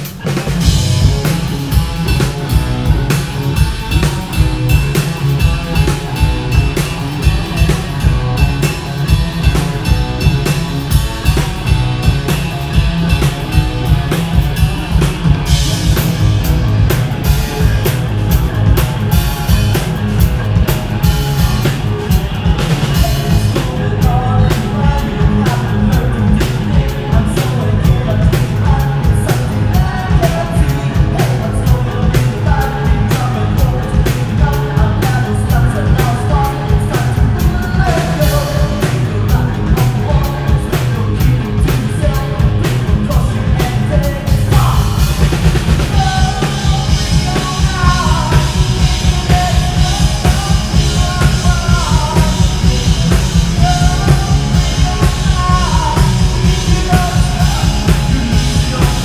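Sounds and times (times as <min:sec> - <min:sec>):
bass guitar: 0:00.0 - 0:59.0
drum kit beat: 0:00.0 - 0:59.0
electric guitar: 0:00.0 - 0:59.0.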